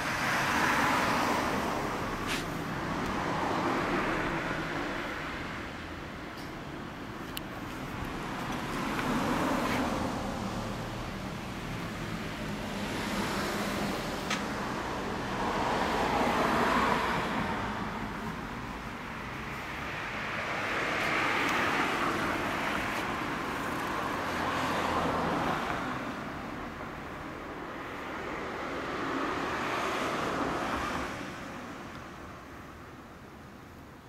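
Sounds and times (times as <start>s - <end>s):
cars passing: 0.0s - 34.0s.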